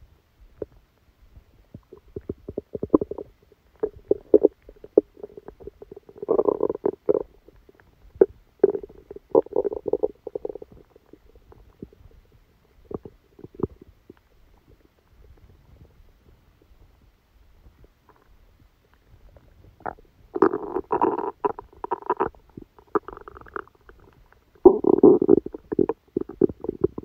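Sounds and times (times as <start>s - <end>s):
stomach growling and gurgling: 1.6s - 17.0s, 17.6s - 27.0s.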